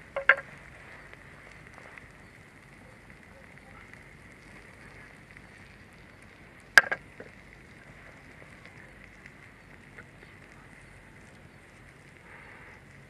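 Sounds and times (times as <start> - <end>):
campfire burning: 0.0 - 13.0
fire crackling sharply: 0.0 - 13.0.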